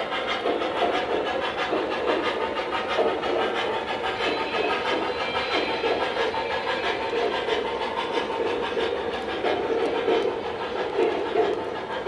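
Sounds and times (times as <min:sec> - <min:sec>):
model train wheels rumbling: 0:00.0 - 0:12.0.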